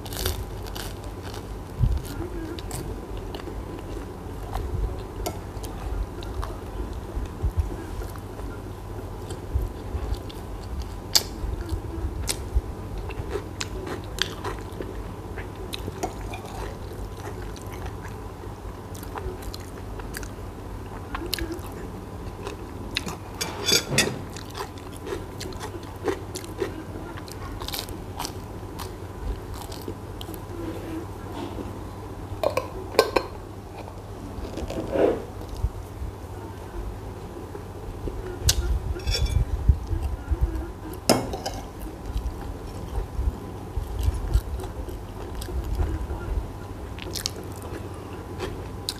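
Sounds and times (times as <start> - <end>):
man chewing bread: 0.0 - 23.6, 24.2 - 31.8, 37.4 - 48.9.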